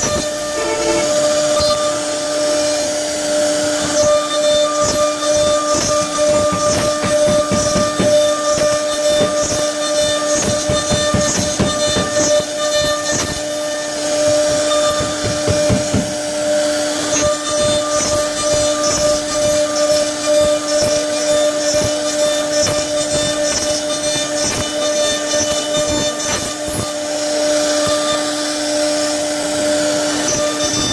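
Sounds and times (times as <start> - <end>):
router bit chattering on wood: 0.0 - 30.9
router spindle whine: 0.0 - 30.9.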